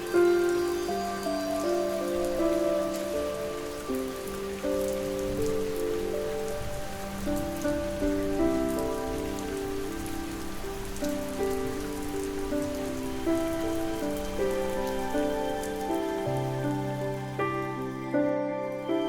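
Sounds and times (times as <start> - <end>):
gentle sleep music: 0.0 - 19.0
rain pattering: 0.0 - 19.0.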